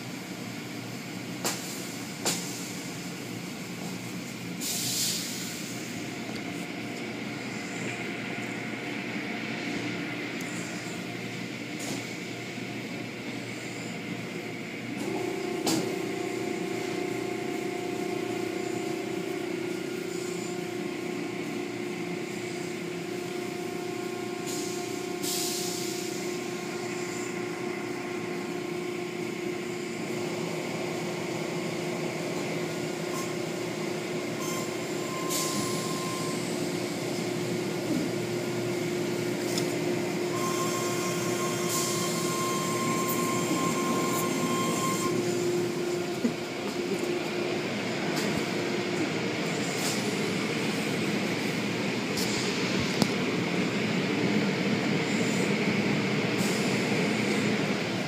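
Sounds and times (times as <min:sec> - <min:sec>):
car wash machinery hum: 0:00.0 - 0:58.0
high machine whine: 0:00.0 - 0:58.0.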